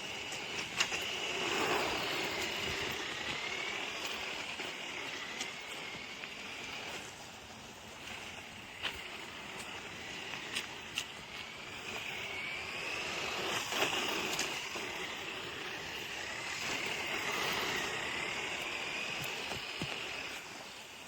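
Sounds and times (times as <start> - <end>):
steady hiss: 0.0 - 21.0
toy electric motor whining: 0.0 - 21.0.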